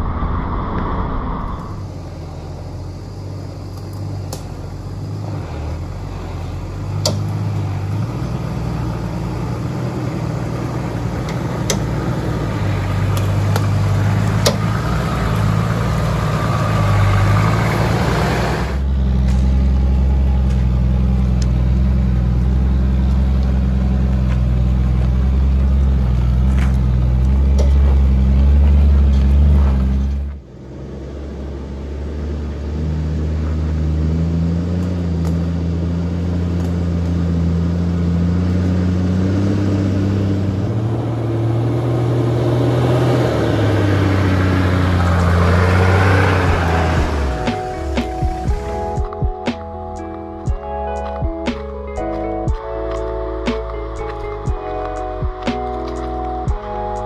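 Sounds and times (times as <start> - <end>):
four-wheel drive engine: 1.6 - 57.0.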